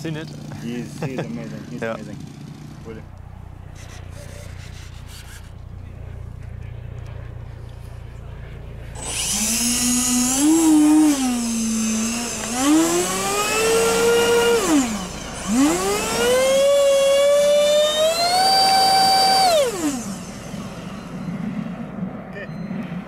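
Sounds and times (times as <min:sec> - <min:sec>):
electric ducted fans whining: 0:00.0 - 0:23.0.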